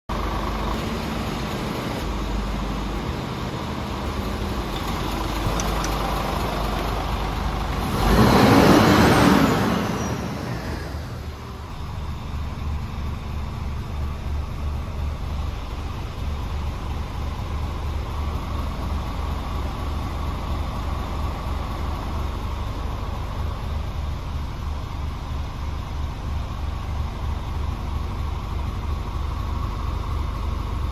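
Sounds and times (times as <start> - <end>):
diesel engine idling: 0.1 - 30.9.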